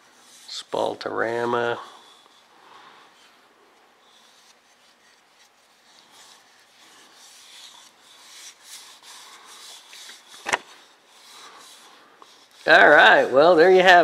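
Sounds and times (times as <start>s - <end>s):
glove rubbing on wood: 0.0s - 14.0s.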